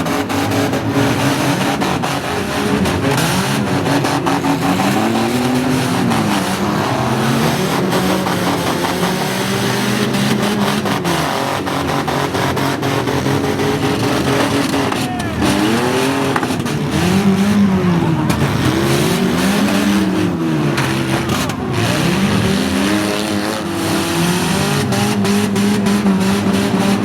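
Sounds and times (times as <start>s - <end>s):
engines revving: 0.0s - 27.0s
vehicles crashing: 0.0s - 27.0s.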